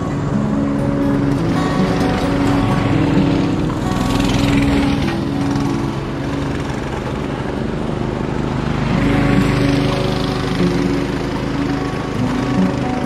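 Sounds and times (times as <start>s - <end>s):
mini bike engine passing: 0.0s - 13.0s.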